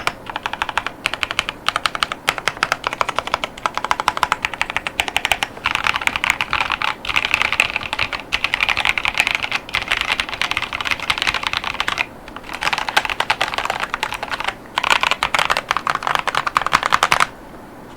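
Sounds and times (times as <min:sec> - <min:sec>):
mechanical keyboard typing: 0:00.0 - 0:17.3.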